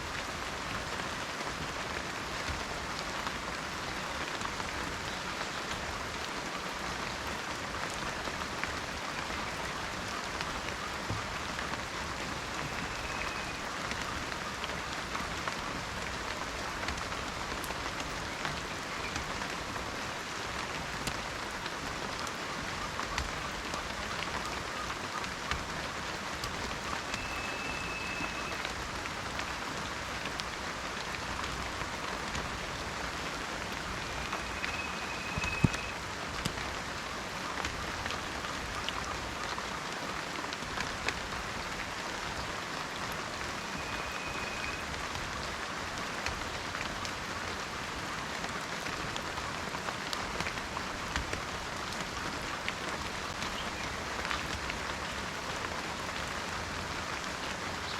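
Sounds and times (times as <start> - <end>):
rain falling in a forest: 0.0 - 57.9
raindrops ticking: 0.1 - 57.9.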